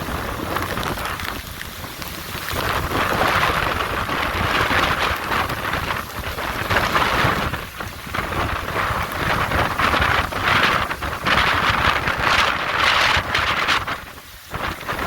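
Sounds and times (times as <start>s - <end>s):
heavy rain hissing: 0.0s - 15.0s
hurricane wind: 0.0s - 15.0s.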